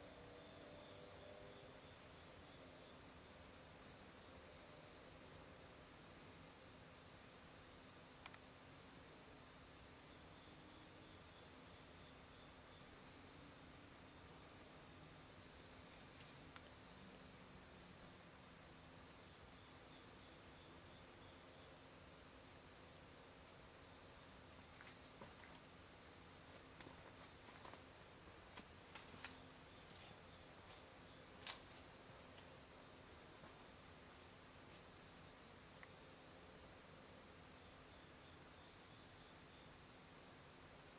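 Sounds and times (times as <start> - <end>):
crickets trilling: 6.3 - 40.9.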